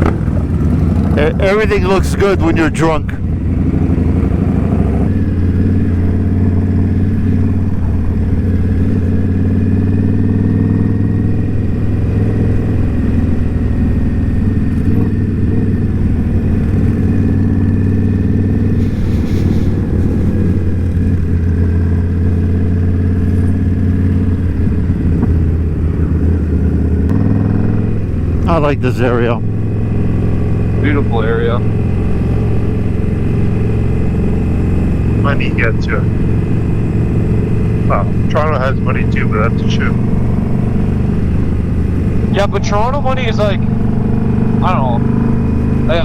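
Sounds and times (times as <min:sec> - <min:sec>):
motorcycle engine droning: 0:00.0 - 0:46.0.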